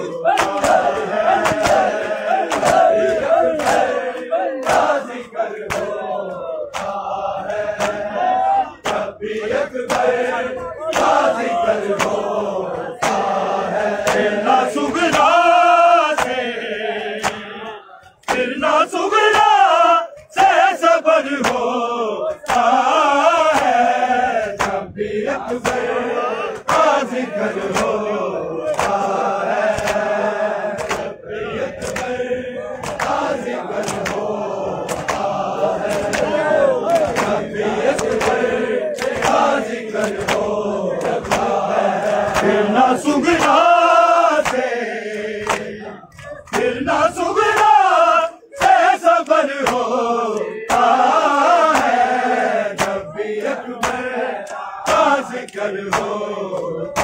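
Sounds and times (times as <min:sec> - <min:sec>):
crowd chanting: 0:00.0 - 0:57.0
men chanting: 0:00.0 - 0:57.0
rhythmic chest-beating: 0:00.0 - 0:57.0.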